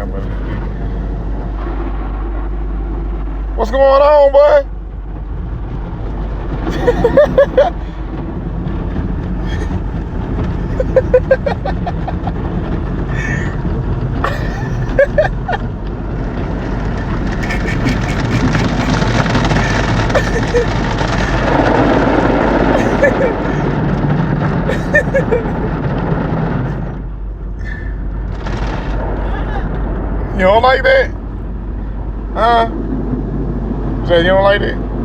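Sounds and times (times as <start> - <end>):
car wash machinery and spray: 0.0 - 35.0.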